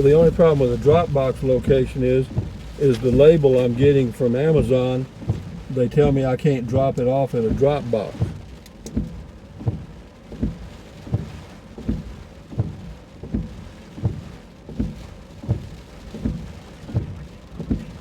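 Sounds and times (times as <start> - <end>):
rain: 0.0 - 18.0
road noise: 0.0 - 18.0
windshield wipers thumping: 0.0 - 18.0.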